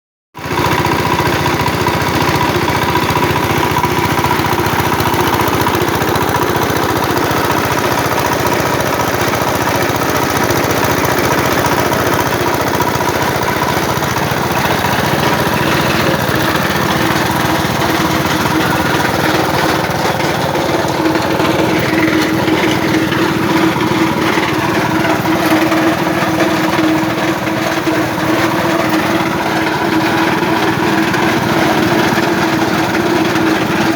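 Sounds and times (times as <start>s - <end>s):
small engine running: 0.4s - 33.9s.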